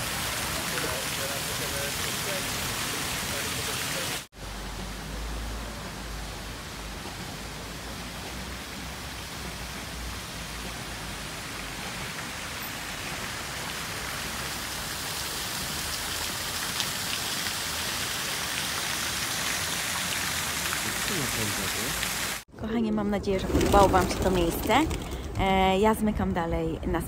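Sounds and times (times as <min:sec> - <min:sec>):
fountain water splashing: 0:00.0 - 0:22.4.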